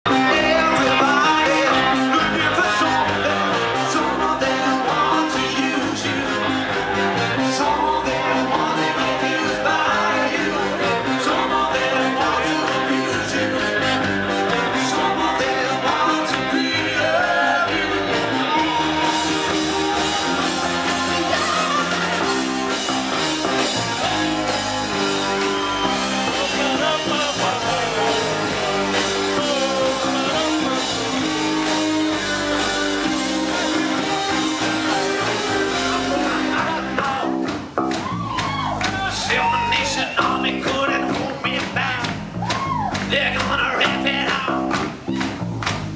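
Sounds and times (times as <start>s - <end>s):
person singing: 0.1s - 37.5s
rock band playing live: 0.1s - 45.9s.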